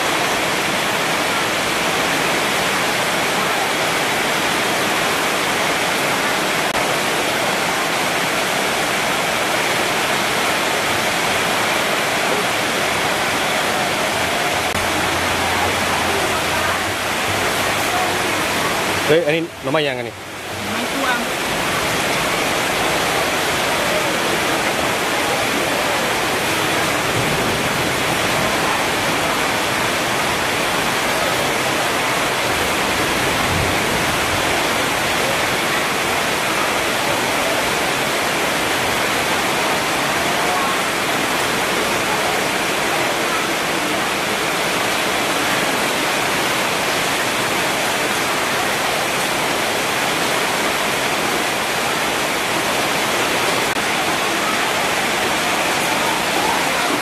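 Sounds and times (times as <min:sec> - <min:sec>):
rushing water hiss: 0:00.0 - 0:57.0.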